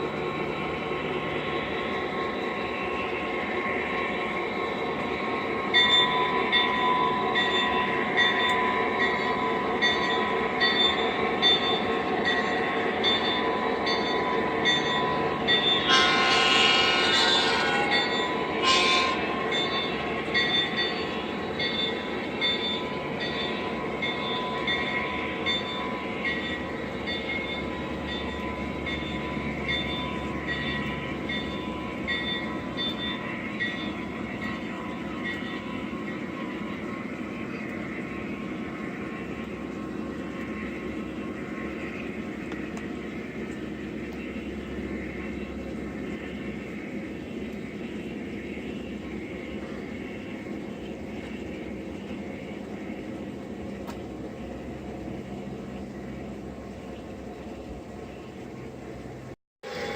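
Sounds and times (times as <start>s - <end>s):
model train humming: 0.0s - 59.9s.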